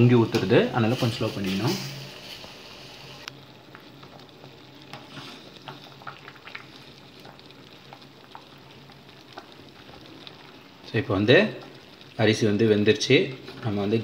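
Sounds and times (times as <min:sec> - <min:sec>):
water boiling in a pot: 0:00.0 - 0:14.0.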